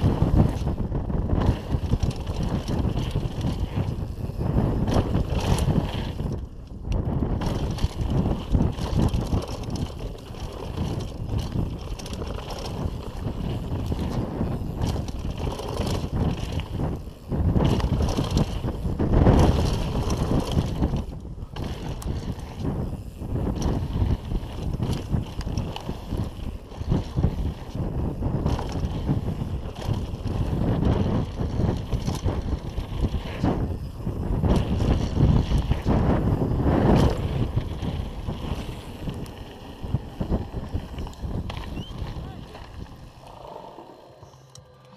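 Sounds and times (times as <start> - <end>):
bike tyre noise and rattle: 0.0 - 44.9
wind rumbling on microphone: 0.0 - 44.9.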